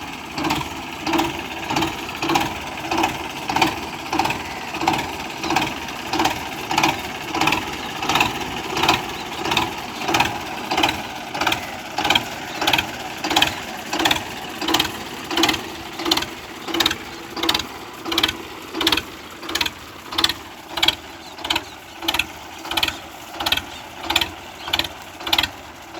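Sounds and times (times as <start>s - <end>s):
machinery clacking rhythmically: 0.0s - 25.9s.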